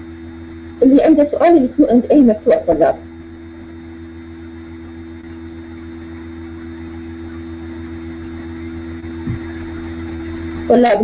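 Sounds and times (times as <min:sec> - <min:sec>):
two constant tones: 0:00.0 - 0:11.0.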